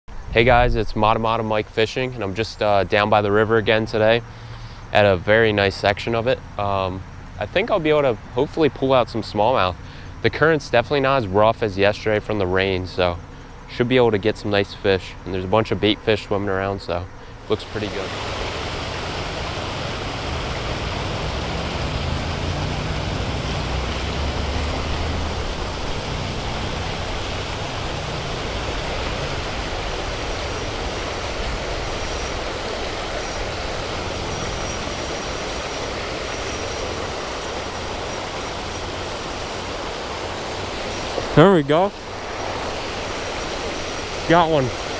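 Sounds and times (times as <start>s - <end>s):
river current rushing: 0.1s - 44.9s.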